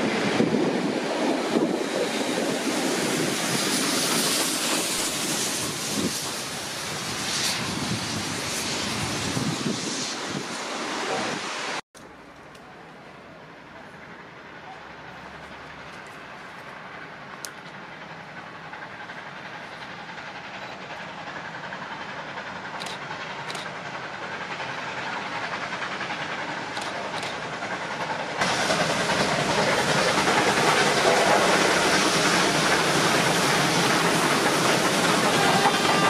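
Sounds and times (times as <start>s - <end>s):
loud steam hiss: 0.0s - 11.8s, 14.9s - 36.0s
steam locomotive passing: 0.0s - 36.0s.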